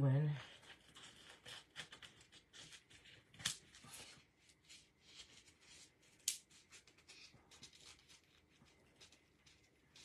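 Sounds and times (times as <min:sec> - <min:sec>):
styrofoam rubbing and scraping: 0:00.4 - 0:10.0.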